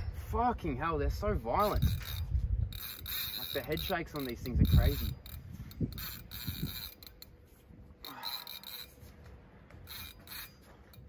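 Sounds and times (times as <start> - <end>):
fishing reel rasping: 1.4 - 9.1, 9.8 - 11.0.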